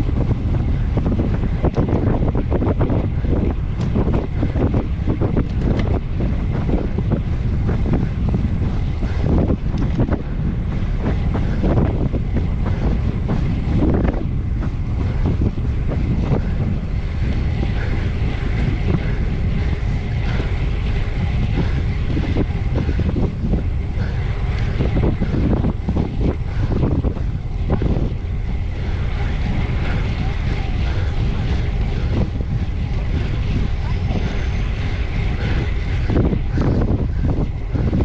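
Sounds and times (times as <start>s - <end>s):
tyre and road noise: 0.0s - 38.0s
wind buffeting microphone: 0.0s - 38.0s.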